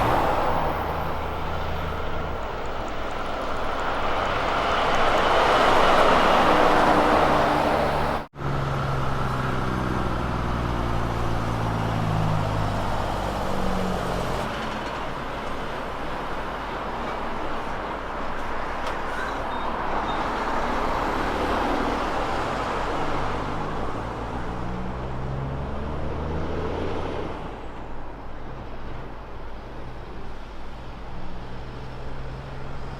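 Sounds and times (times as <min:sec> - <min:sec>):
truck diesel engine accelerating: 0:00.0 - 0:18.2, 0:19.0 - 0:32.9.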